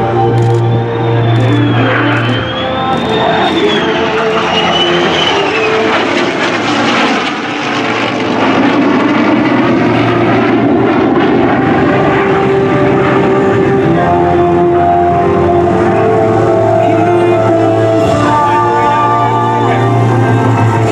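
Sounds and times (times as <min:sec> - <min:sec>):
jet and propeller aircraft roar: 0:00.0 - 0:20.9.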